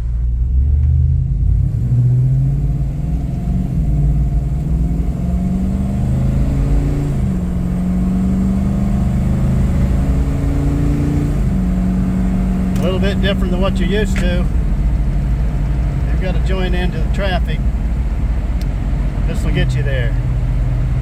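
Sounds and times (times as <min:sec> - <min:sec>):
engine accelerating through gear shifts: 0:00.0 - 0:21.0.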